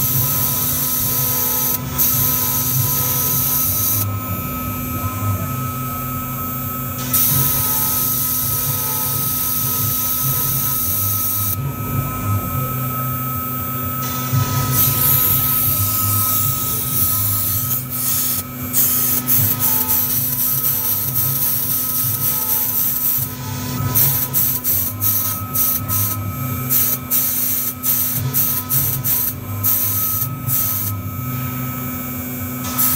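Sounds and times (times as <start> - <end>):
router spindle whining: 0.0 - 32.9.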